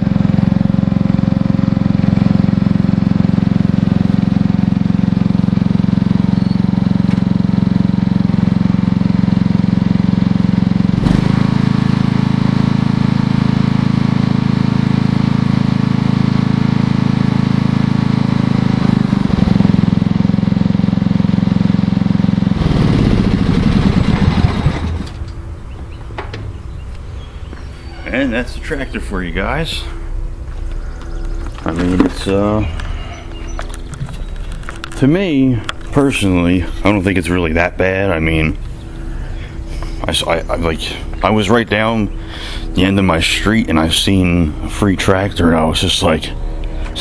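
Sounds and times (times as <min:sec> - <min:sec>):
engine spinning down: 0:00.0 - 0:47.0
lawnmower engine running: 0:00.0 - 0:47.0.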